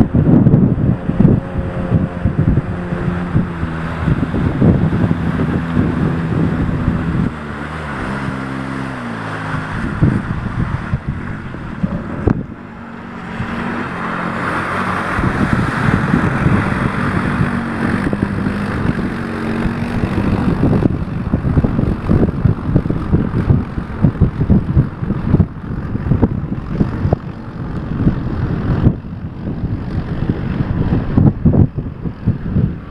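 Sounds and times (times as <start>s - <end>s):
atv engine running: 0.0s - 32.9s
wind buffeting microphone: 0.0s - 32.9s.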